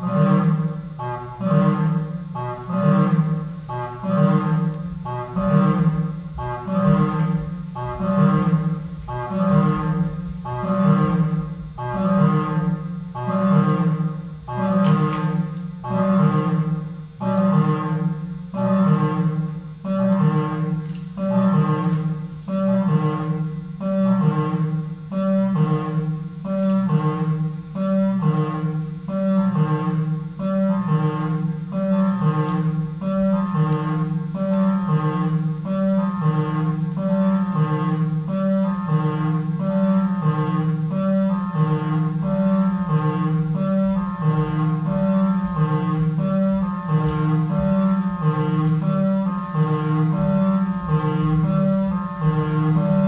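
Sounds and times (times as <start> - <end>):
instrumental music: 0.0 - 53.0.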